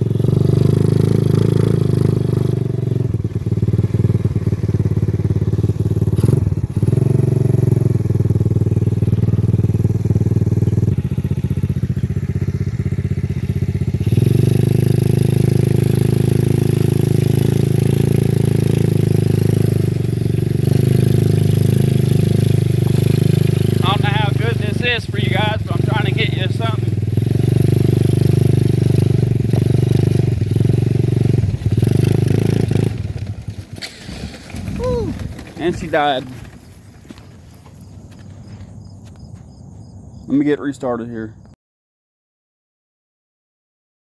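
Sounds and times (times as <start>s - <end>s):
small quad engine running: 0.0s - 38.6s.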